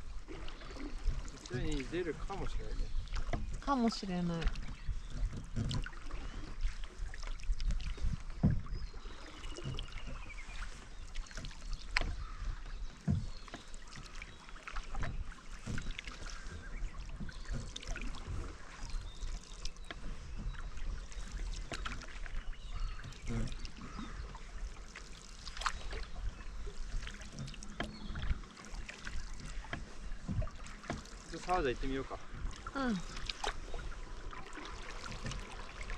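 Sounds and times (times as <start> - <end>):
paddle strokes and splashes: 0.0 - 35.9
low knocks on canoe: 2.4 - 35.9.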